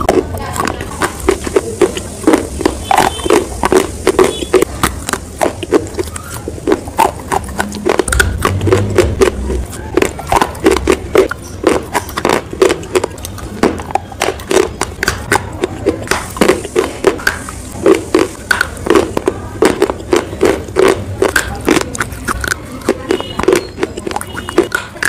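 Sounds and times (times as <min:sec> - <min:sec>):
crunching and chewing chalk: 0:00.0 - 0:25.0.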